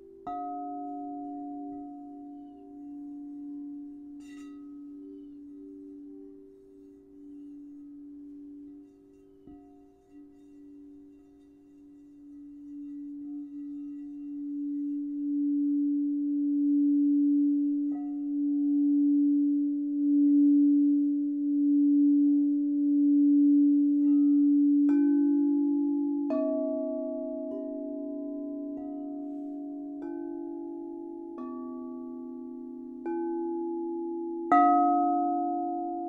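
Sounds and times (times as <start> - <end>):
higher bowl notes ringing: 0.0 - 36.0
singing bowl low tone: 0.0 - 36.0.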